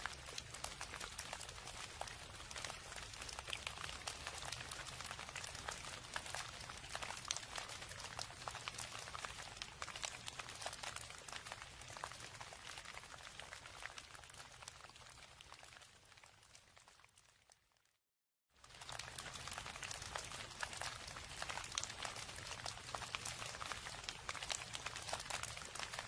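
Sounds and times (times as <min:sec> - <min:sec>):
rain drops pattering: 0:00.0 - 0:17.8, 0:18.6 - 0:26.0.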